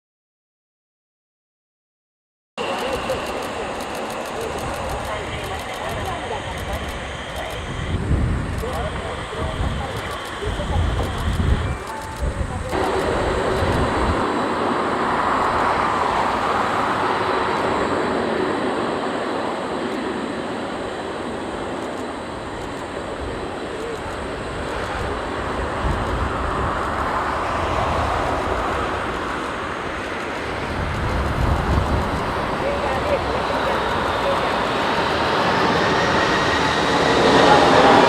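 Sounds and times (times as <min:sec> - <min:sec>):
jet engines roaring: 0:02.6 - 0:38.0.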